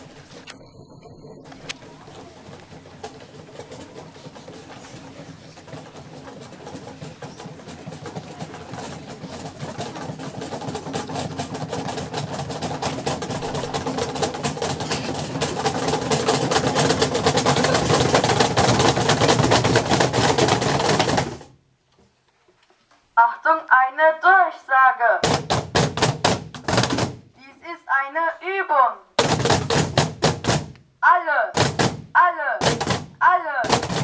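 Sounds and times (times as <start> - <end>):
box drums rolling: 0.0 - 21.6, 25.2 - 27.2, 29.2 - 30.8, 31.6 - 34.0.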